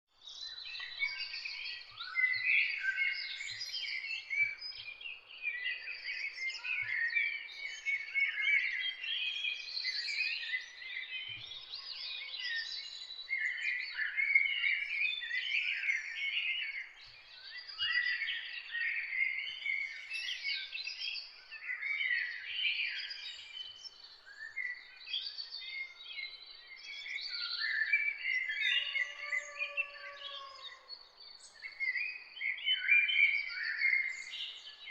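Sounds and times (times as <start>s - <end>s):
songbirds chorus: 0.1s - 34.9s.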